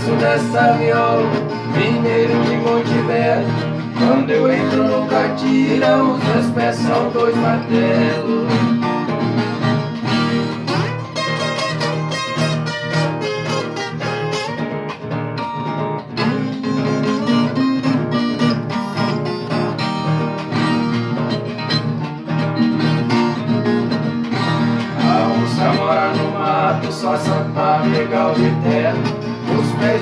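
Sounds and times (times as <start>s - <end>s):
plucked guitar notes: 0.0s - 30.0s.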